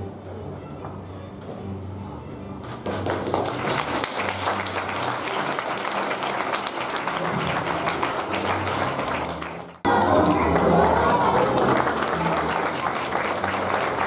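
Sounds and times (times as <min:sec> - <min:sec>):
audience applauding: 0:02.6 - 0:14.0.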